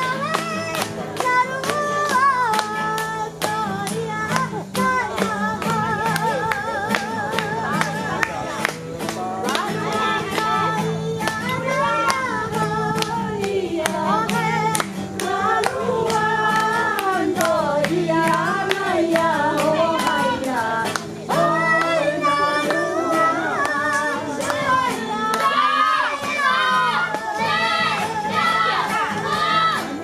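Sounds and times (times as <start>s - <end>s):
group of people singing: 0.0s - 30.0s
hand claps: 0.0s - 30.0s.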